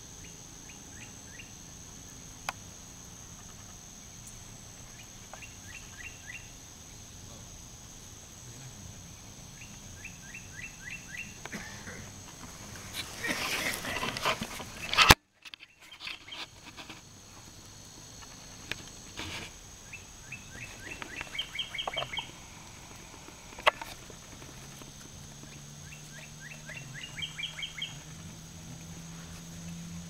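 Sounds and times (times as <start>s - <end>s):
songbird chirping: 0.0s - 30.0s.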